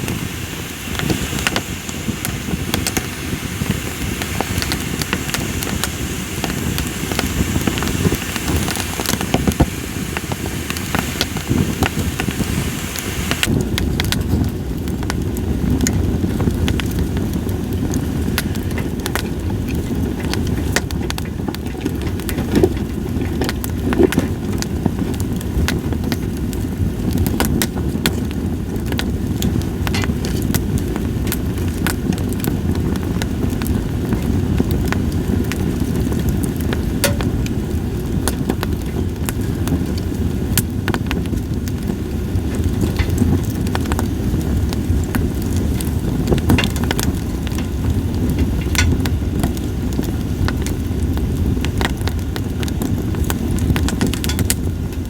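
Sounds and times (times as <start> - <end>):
campfire logs crackling: 0.0 - 55.0.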